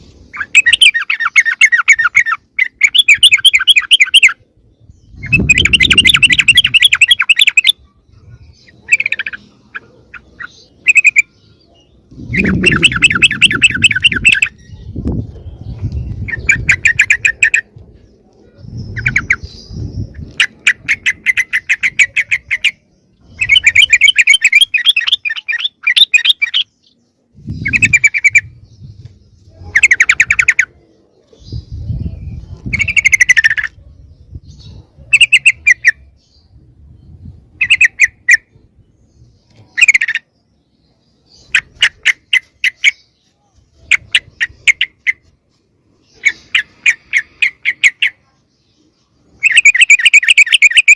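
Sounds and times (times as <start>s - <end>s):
bulbuls chattering: 0.0s - 36.2s, 41.2s - 50.9s.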